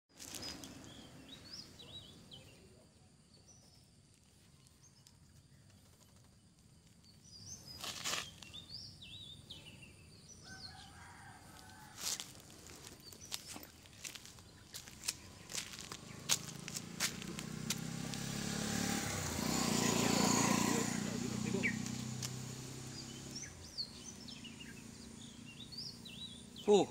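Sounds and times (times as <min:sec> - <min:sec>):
birds chirping: 0:00.2 - 0:26.9
low steady bird call: 0:00.3 - 0:26.9.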